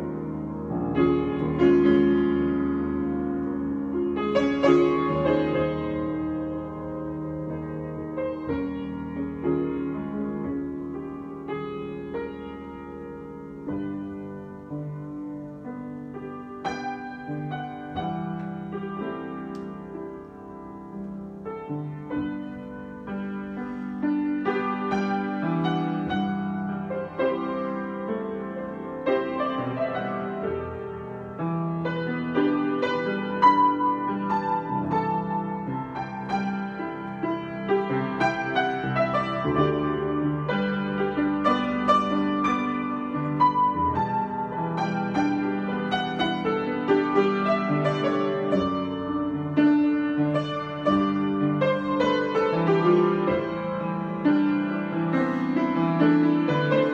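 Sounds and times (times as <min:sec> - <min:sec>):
solo grand piano: 0:00.0 - 0:56.9.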